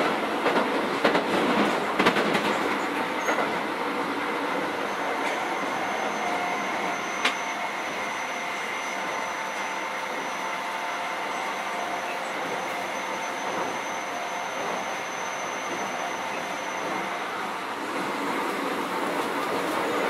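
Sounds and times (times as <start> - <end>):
train interior running noise: 0.0 - 20.0.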